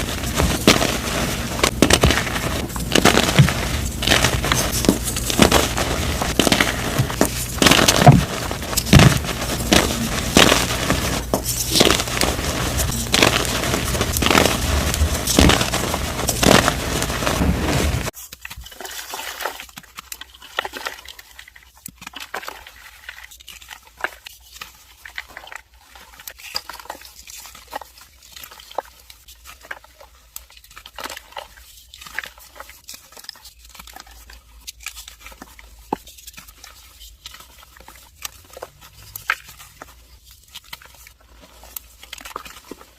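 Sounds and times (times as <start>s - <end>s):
chalk crunching and crumbling: 0.0s - 42.9s.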